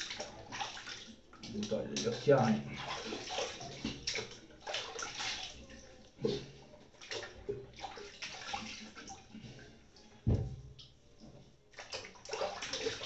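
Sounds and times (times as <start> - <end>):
water splashing in sink: 0.0 - 13.0.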